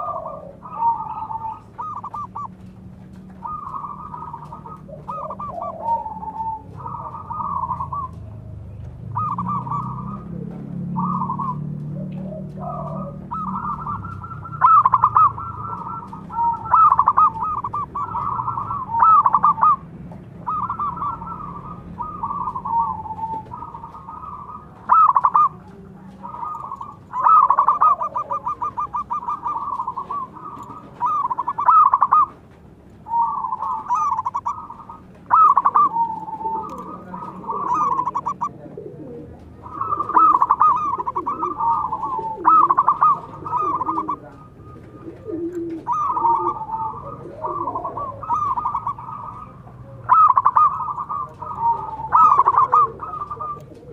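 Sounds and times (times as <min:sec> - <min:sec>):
doves cooing: 0:00.0 - 0:53.9.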